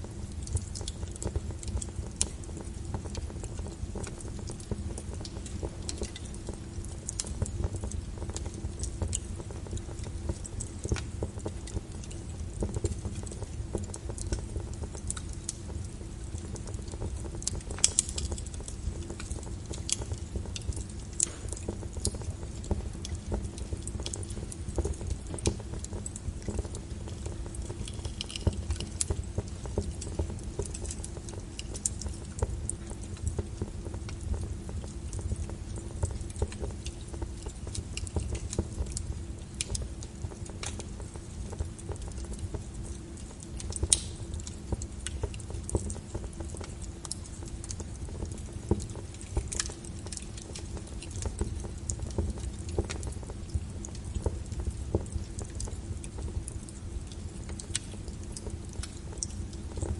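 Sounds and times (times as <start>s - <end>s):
logs burning in fireplace: 0.0s - 59.9s.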